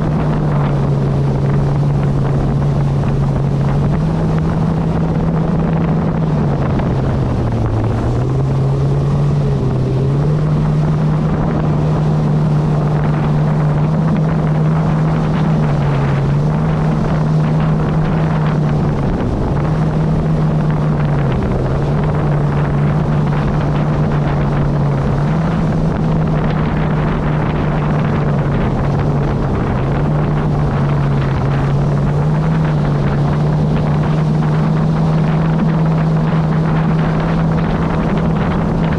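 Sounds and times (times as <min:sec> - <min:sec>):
jet ski engine running: 0:00.0 - 0:38.9
wind noise on microphone: 0:00.0 - 0:38.9.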